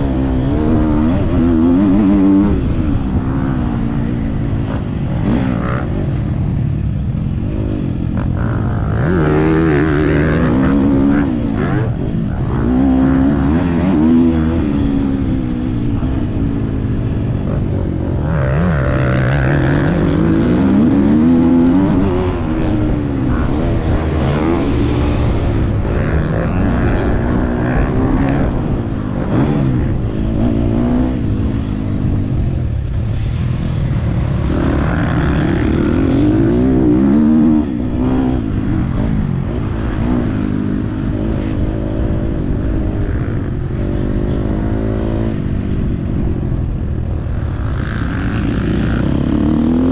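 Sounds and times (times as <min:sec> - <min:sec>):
motocross bike engine revving: 0:00.0 - 0:06.6, 0:07.4 - 0:45.8.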